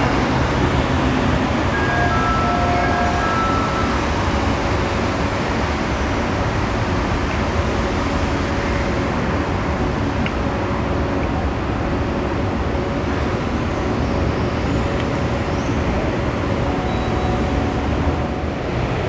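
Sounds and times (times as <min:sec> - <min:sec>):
monorail train running past: 0:00.0 - 0:19.0.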